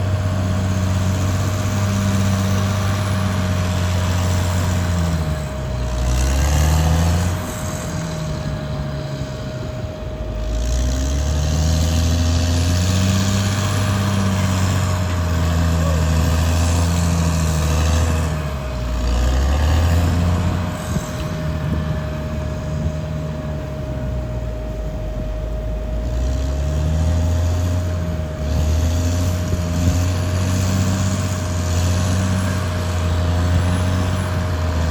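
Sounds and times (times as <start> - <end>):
bulldozer diesel engine under load: 0.0 - 34.9
steady high whine: 0.0 - 34.9.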